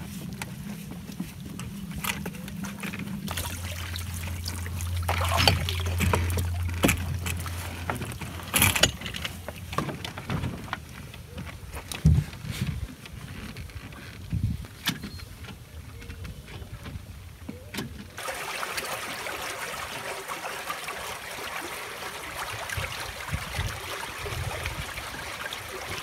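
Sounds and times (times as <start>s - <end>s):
water rushing along a hull: 0.0s - 14.2s, 17.3s - 26.0s.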